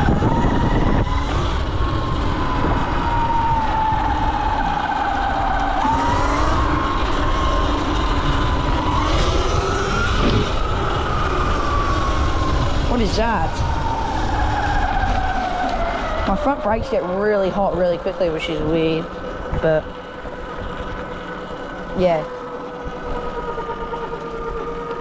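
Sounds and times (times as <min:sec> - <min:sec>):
electric motor whine: 0:00.0 - 0:25.0
low rumble: 0:00.0 - 0:25.0.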